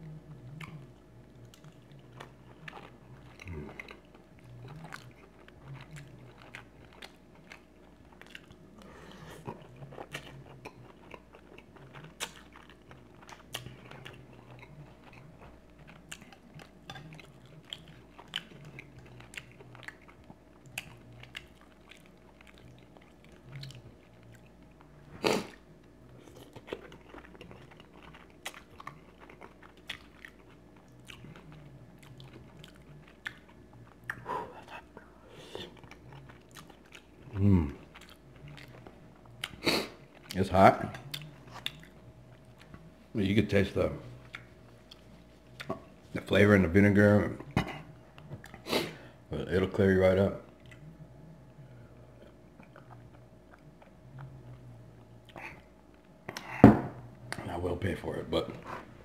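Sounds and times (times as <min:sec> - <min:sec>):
person chewing food: 0:00.0 - 0:46.2, 0:47.4 - 0:49.2, 0:50.5 - 0:56.6.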